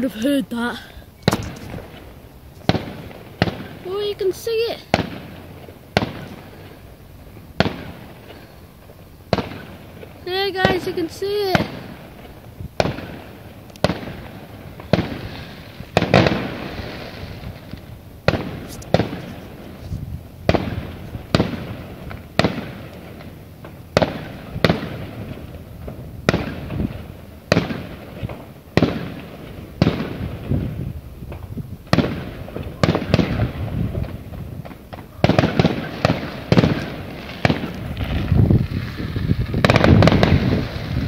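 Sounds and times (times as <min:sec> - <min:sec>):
fireworks bursting: 0:00.0 - 0:41.0.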